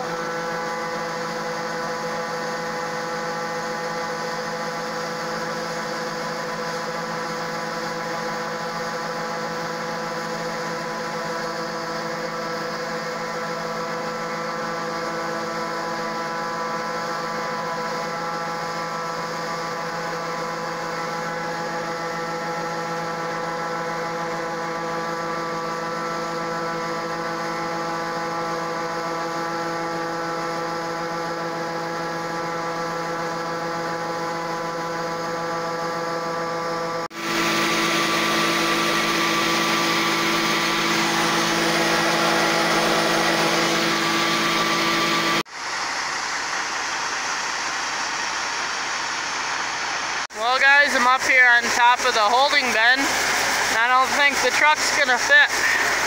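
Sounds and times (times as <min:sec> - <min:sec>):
combine harvester humming: 0:00.0 - 0:56.0.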